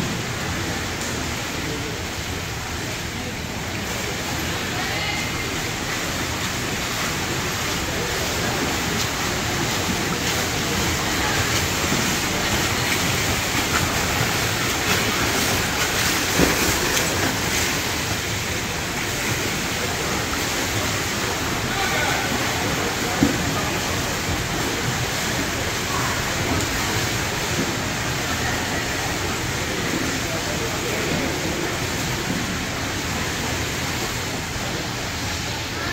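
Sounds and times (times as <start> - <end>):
swimmers splashing in pool: 0.0 - 35.9.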